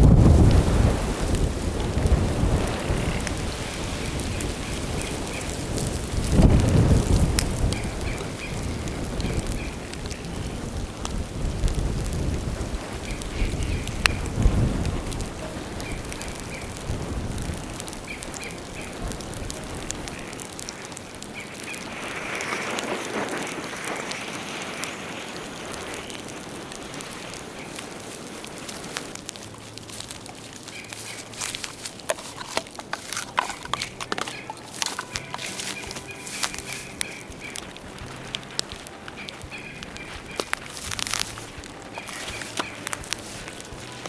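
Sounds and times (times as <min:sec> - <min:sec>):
bonfire crackling and popping: 0:00.0 - 0:44.0
steady outdoor hiss: 0:00.0 - 0:44.0.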